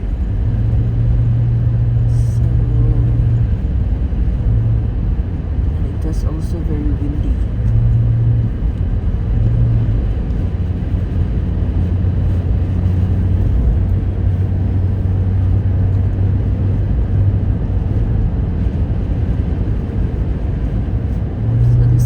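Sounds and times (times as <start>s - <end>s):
car engine hum: 0.0s - 22.0s
tyre and road noise: 0.0s - 22.0s.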